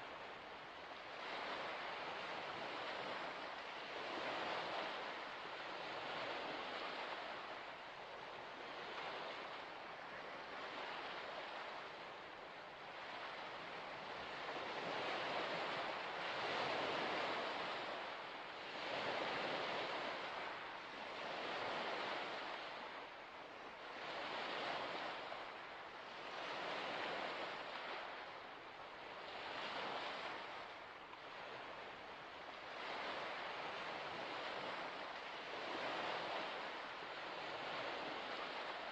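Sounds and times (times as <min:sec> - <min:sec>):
small waves washing onto shore: 0:00.0 - 0:38.9.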